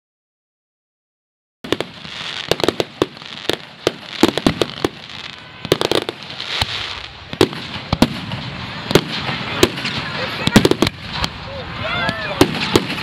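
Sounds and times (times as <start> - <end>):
fireworks crackling and banging: 1.6 - 13.0.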